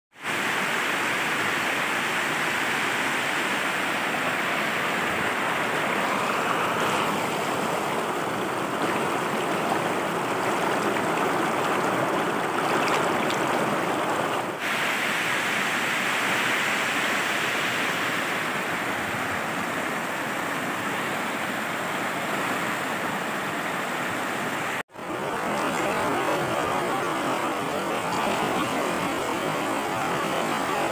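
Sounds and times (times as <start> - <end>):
floodwater rushing over rocks: 0.1 - 30.9.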